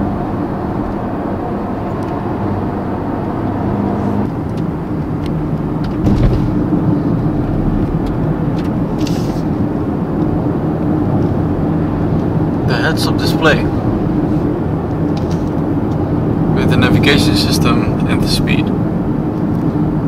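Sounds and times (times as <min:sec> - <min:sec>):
car engine inside cabin: 0:00.0 - 0:20.0.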